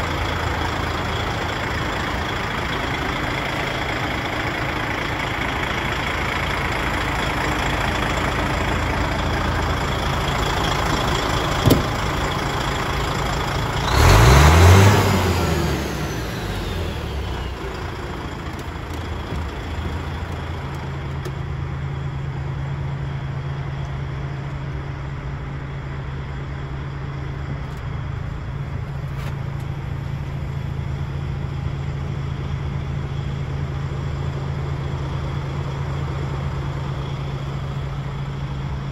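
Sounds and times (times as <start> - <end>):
diesel truck engine idling and revving: 0.0 - 38.9.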